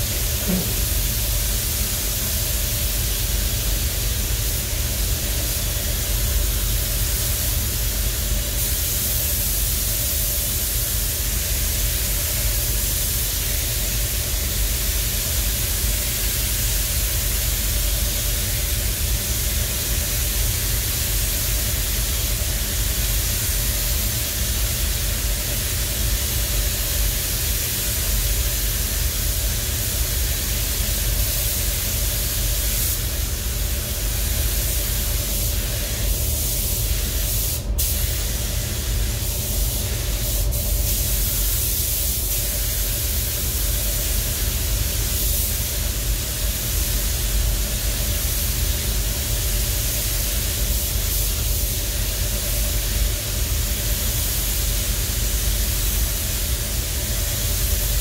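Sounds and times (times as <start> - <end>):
spray gun hissing: 0.0 - 58.0.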